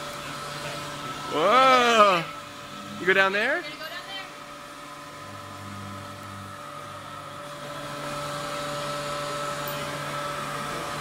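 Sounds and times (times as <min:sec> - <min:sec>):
leaf blower running: 0:00.0 - 0:11.0.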